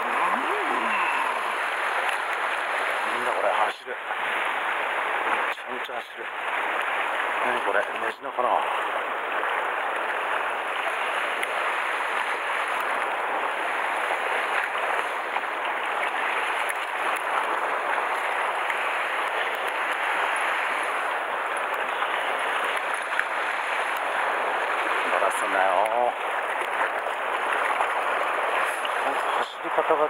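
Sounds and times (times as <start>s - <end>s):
sea water washing against rocks: 0.0s - 30.0s.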